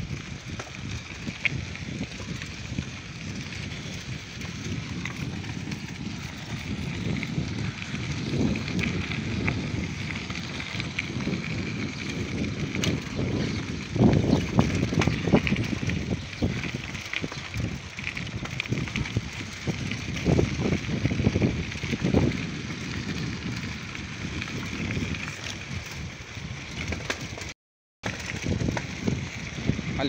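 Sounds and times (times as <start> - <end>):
wind rumbling on microphone: 0.0 - 27.5, 28.1 - 30.0
bicycle tyres on gravel: 0.0 - 30.0
bikes rattling: 0.0 - 30.0.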